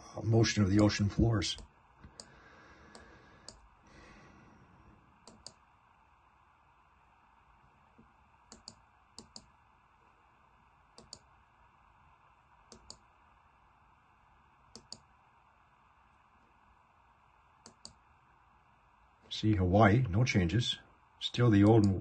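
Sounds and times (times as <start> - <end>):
faint room hiss: 0.0 - 22.0.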